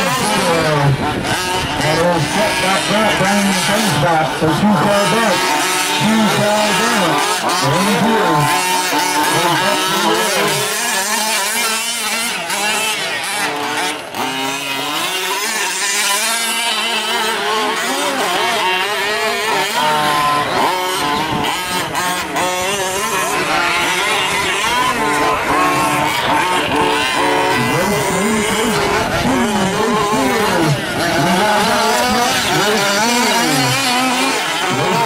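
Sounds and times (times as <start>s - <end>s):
small two-stroke engines revving: 0.0s - 35.0s.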